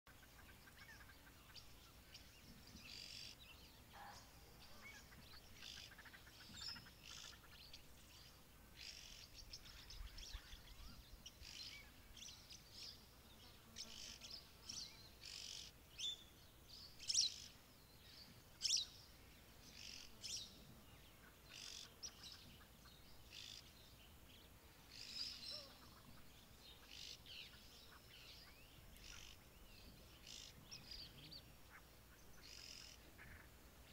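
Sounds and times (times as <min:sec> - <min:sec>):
wild birds chirping and whistling: 0:00.1 - 0:33.9.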